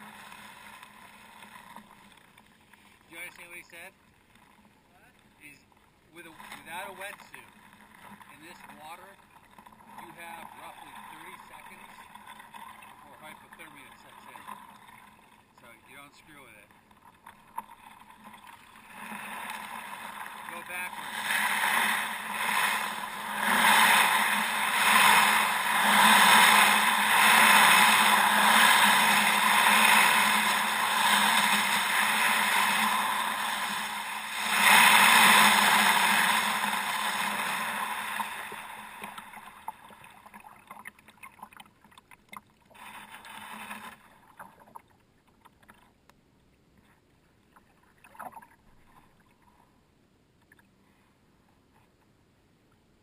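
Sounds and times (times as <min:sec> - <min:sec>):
kayak rushing through water: 0:00.0 - 0:46.0
faint water splashes: 0:00.0 - 0:52.9.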